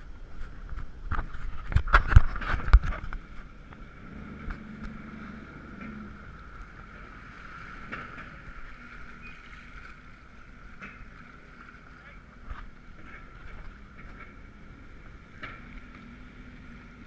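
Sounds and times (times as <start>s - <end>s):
water sloshing against hulls: 0.2s - 17.0s
jet skis idling: 2.4s - 17.0s.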